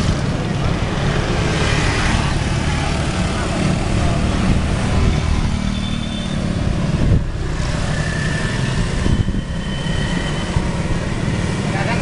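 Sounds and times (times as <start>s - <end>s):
motorcycle engines: 0.0s - 12.0s
road traffic: 0.0s - 12.0s.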